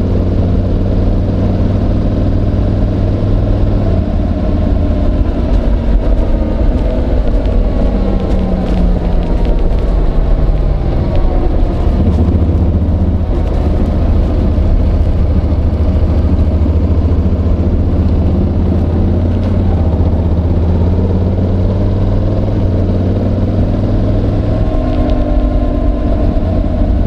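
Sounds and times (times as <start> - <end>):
muffled motorcycle engine: 0.0 - 27.0.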